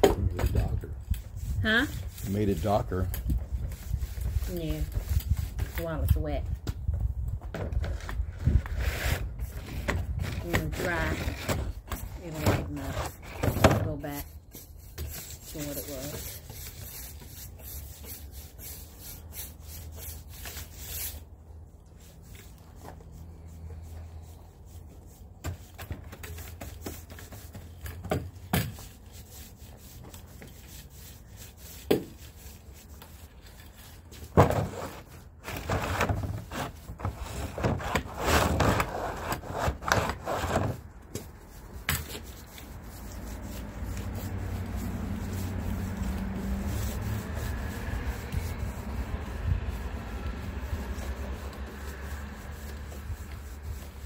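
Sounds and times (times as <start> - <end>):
applicator rubbing on wooden boards: 8.7 - 21.3, 22.1 - 54.0.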